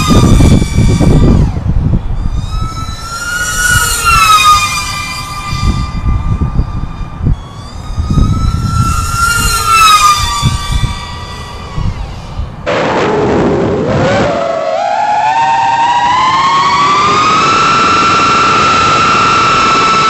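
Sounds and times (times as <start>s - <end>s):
quadcopter motors whining past: 0.0s - 20.0s
wind rumble on microphone: 0.0s - 20.0s.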